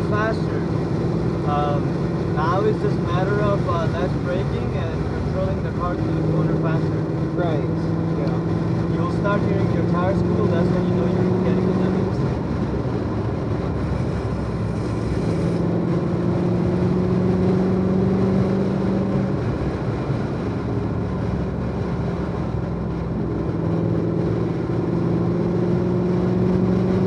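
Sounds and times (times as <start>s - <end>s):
car engine cruising: 0.0s - 27.0s
road noise: 0.0s - 27.0s.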